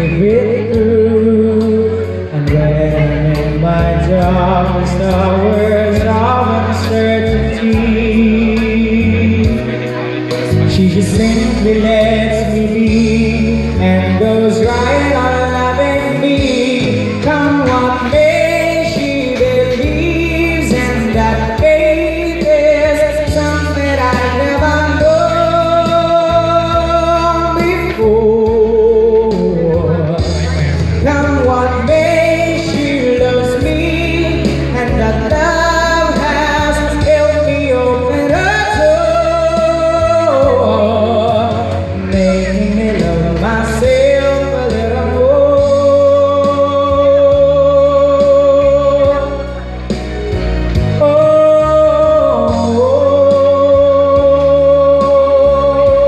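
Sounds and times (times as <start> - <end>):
instrumental accompaniment: 0.0 - 56.0
man singing with vibrato: 0.0 - 56.0.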